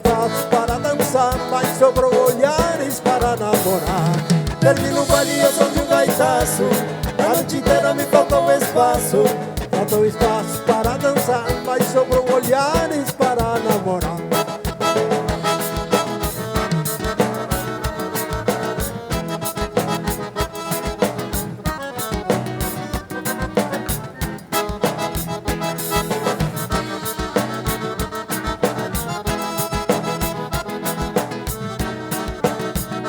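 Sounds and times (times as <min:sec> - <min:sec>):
accordion dance music: 0:00.0 - 0:33.0.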